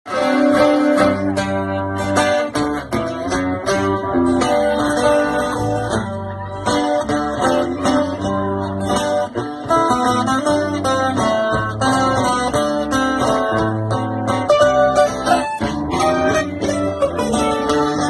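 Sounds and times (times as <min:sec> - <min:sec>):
acoustic guitar plucked and strummed: 0:00.1 - 0:18.0.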